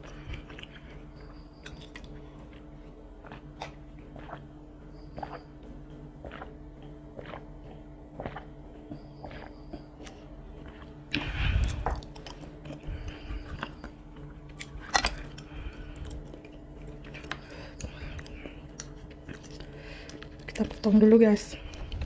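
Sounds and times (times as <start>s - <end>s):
close chewing with mouth sounds: 0.0s - 22.0s.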